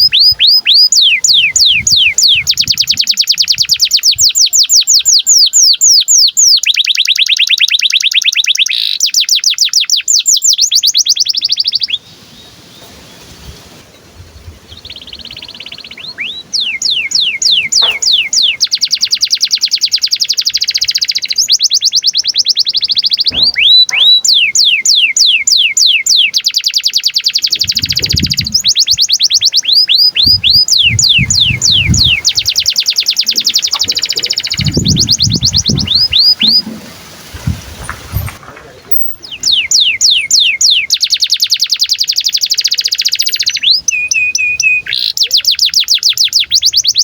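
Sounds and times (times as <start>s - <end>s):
canary singing trills: 0.0s - 13.3s, 13.9s - 47.0s.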